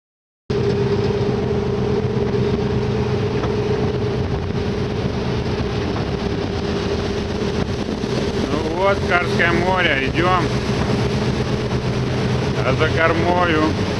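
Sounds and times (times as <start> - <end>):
ship engines droning: 0.5 - 13.9.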